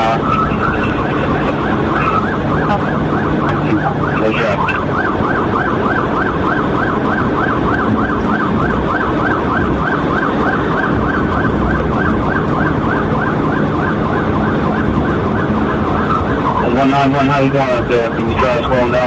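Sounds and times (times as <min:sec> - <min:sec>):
car engine and road noise: 0:00.0 - 0:19.0
police siren yelping: 0:00.0 - 0:19.0.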